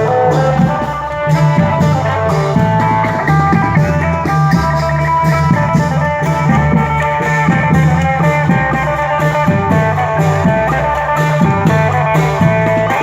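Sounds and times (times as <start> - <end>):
bass: 0.0 - 13.0
drum kit: 0.0 - 13.0
plucked string lead melody: 0.0 - 13.0.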